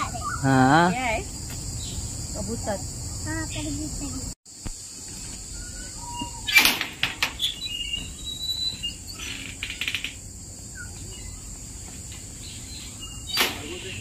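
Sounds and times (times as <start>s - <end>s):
birds chirping: 0.0s - 14.0s
high insect drone: 0.0s - 14.0s.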